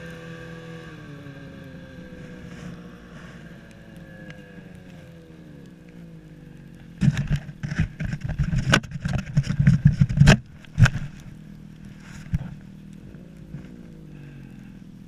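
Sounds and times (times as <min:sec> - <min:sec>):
snowmobile engine idling: 0:00.0 - 0:15.0.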